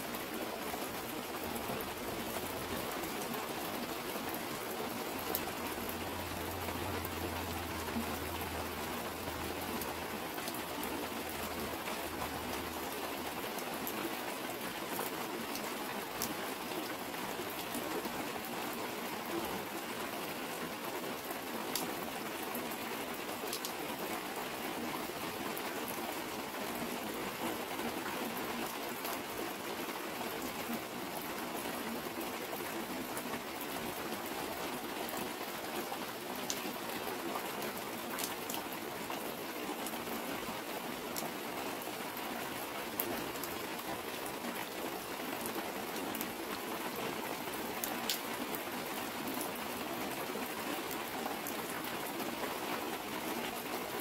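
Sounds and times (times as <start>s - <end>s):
heavy rain on plastic cover: 0.0s - 54.0s.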